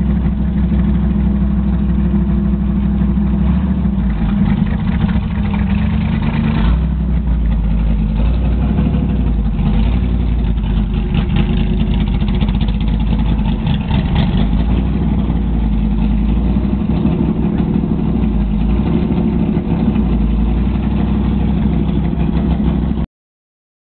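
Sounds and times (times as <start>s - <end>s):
race car engine idling: 0.0s - 23.0s.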